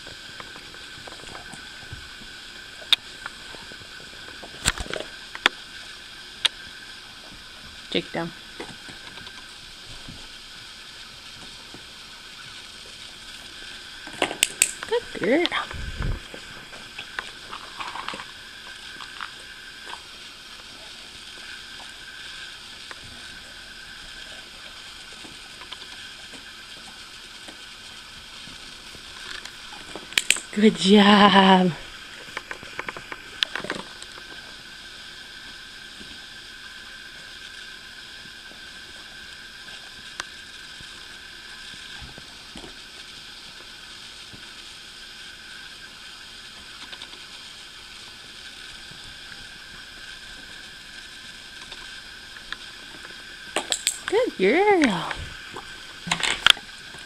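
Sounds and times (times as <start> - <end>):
low room hiss: 0.0 - 57.0.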